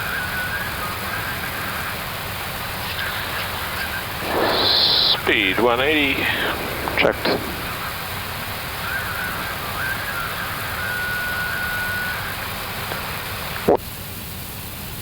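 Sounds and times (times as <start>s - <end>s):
cockpit airflow hiss: 0.0s - 13.6s.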